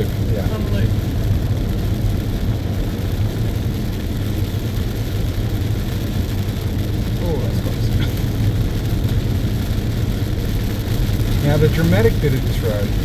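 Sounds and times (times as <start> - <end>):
car road and engine rumble: 0.0 - 13.0
tyres hissing on wet road: 0.0 - 13.0.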